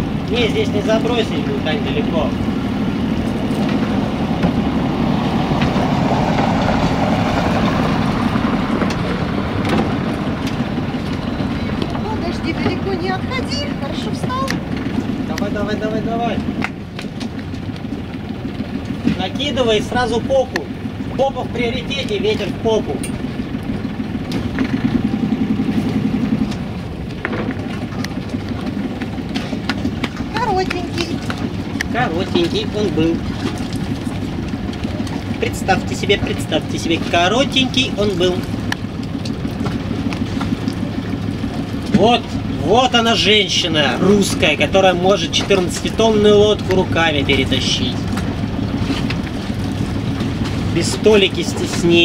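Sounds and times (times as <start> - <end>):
diesel boat engine running: 0.0 - 52.0.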